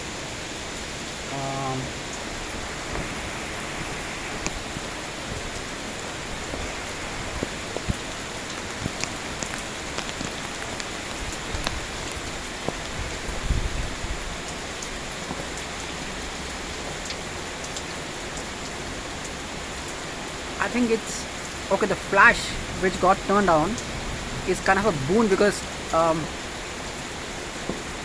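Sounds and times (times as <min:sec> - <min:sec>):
heavy rainfall: 0:00.0 - 0:28.0
raindrops tapping nearby: 0:00.0 - 0:28.0.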